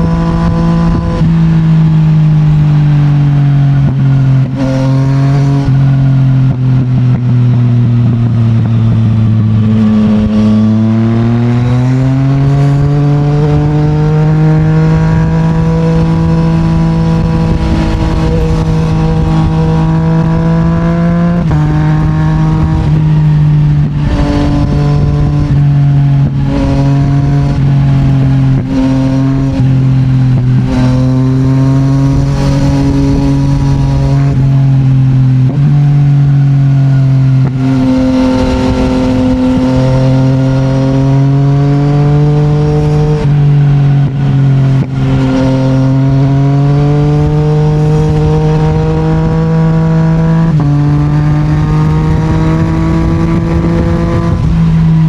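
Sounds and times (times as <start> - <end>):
motorcycle engine changing gear: 0.0 - 55.0.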